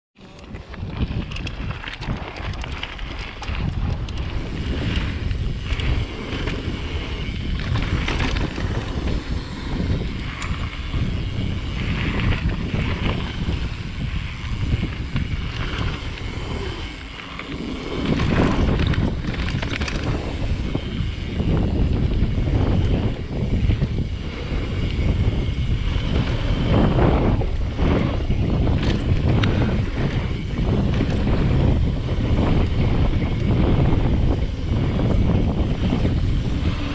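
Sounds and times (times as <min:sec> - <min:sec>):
bike tyres rolling on gravel: 0:00.2 - 0:36.9
wind buffeting microphone: 0:00.2 - 0:36.9.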